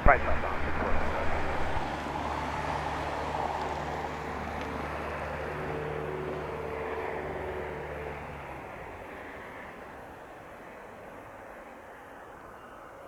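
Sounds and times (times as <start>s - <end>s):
light airplane engine drone: 0.0s - 12.9s.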